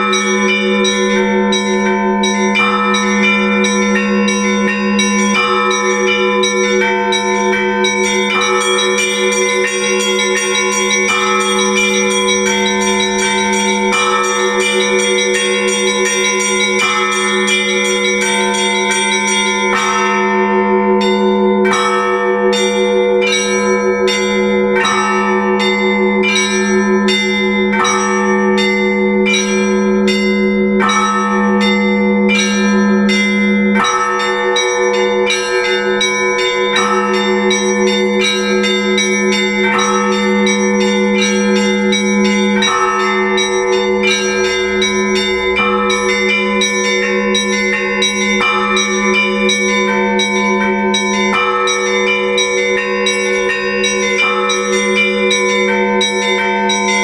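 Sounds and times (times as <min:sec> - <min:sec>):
small bells struck rhythmically: 0:00.0 - 0:57.0
sustained hum of large bells: 0:00.0 - 0:57.0.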